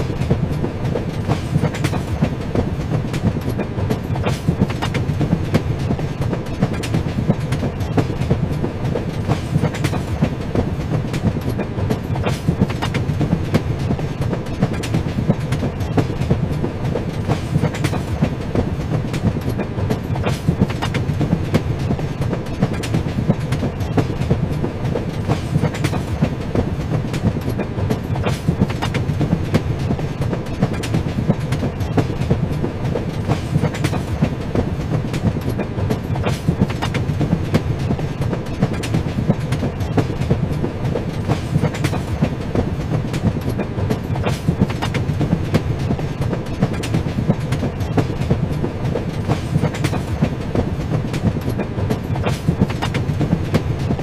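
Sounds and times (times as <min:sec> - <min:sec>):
train rumbling on rails: 0:00.0 - 0:54.0
wheels clicking on track: 0:00.0 - 0:54.0.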